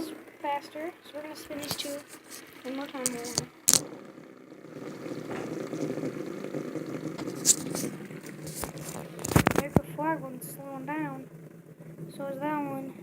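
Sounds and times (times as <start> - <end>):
fidget spinners whirring: 0.0 - 13.0.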